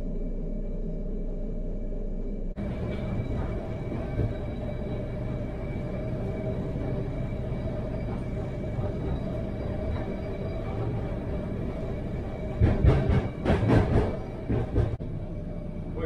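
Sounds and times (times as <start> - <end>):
steady whine: 0.0 - 16.0
tram wheels rumbling on rails: 2.5 - 16.0.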